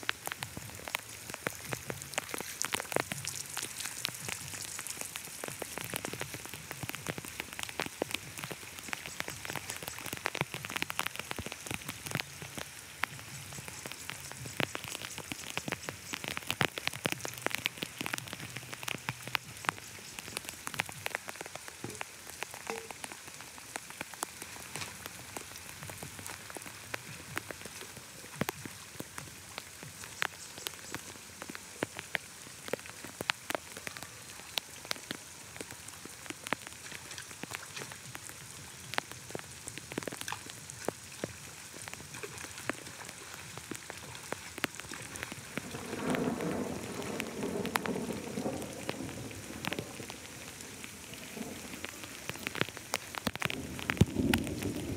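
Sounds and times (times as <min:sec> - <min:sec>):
raindrops ticking on hard surfaces: 0:00.0 - 0:54.9
steady rain: 0:00.0 - 0:54.9.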